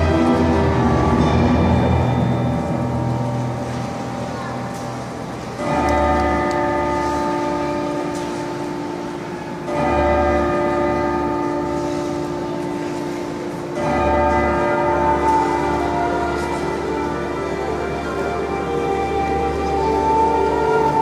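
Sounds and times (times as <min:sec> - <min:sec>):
music over loudspeakers: 0:00.0 - 0:21.0.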